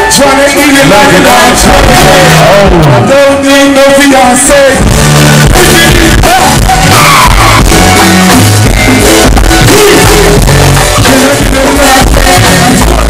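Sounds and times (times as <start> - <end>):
driving drum beat: 0.0 - 3.2, 4.4 - 13.0
live band playing loud: 0.0 - 13.0
person singing: 0.0 - 13.0.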